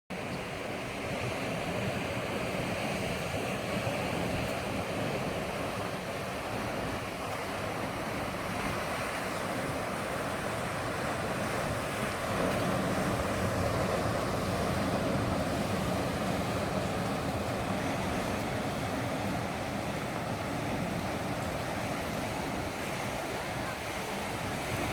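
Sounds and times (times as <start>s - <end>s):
waves washing against rocks: 0.6s - 24.9s
wind on microphone: 1.0s - 24.9s.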